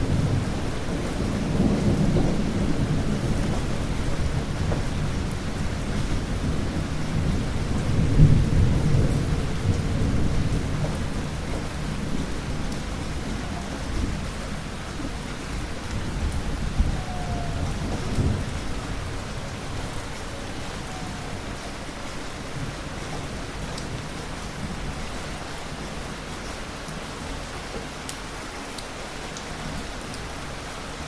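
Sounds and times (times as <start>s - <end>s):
thunder rumbling: 0.0s - 26.3s
steady rain: 0.0s - 31.0s.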